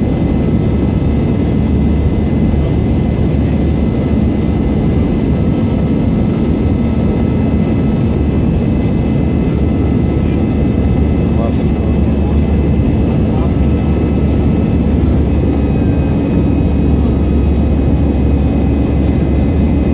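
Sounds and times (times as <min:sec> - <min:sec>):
jet engine cabin drone: 0:00.0 - 0:19.9.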